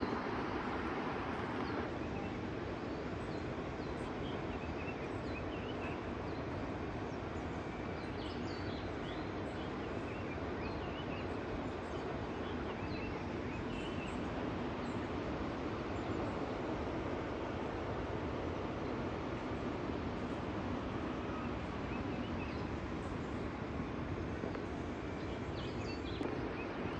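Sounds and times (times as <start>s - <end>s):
outdoor background rush: 0.0s - 26.9s.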